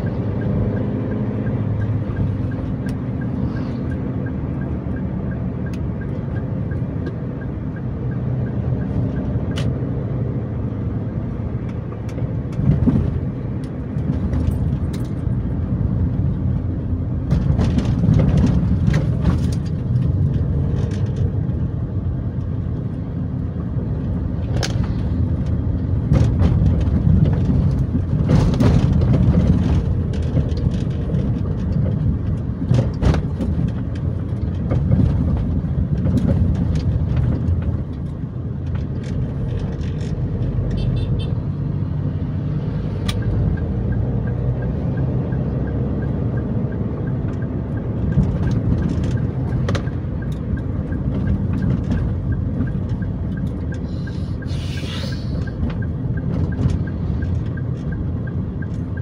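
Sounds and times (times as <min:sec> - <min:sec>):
car road noise: 0:00.0 - 0:59.0.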